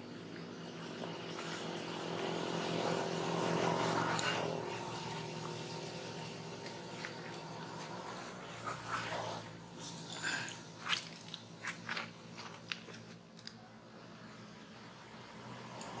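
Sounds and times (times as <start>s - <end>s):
motor hum: 0.0s - 13.4s.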